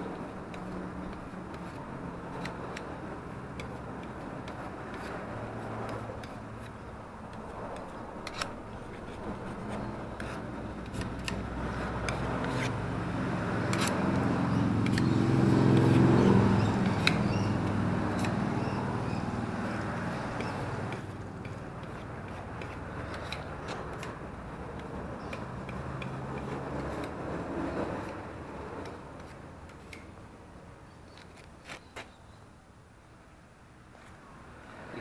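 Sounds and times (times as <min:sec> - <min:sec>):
motor vehicle passing: 0:00.0 - 0:31.5.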